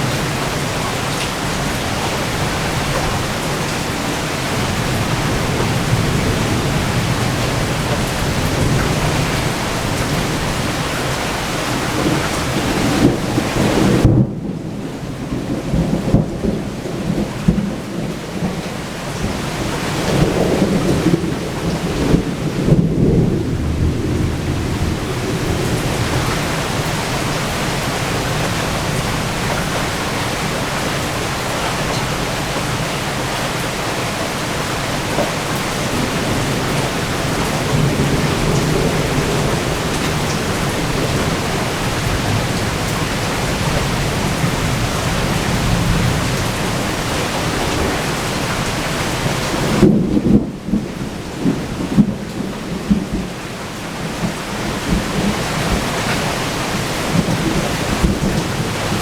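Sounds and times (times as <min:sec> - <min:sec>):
heavy rain: 0:00.0 - 0:59.0
rolling thunder: 0:00.0 - 0:59.0.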